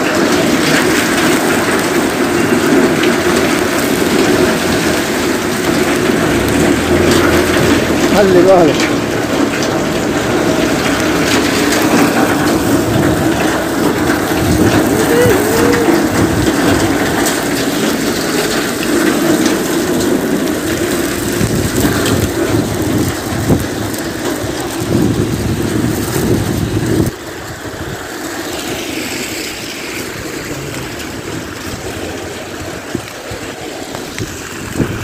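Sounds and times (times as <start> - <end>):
heavy rain: 0.0 - 35.0
storm water running in gutter: 0.0 - 35.0
vehicle engine: 0.0 - 35.0.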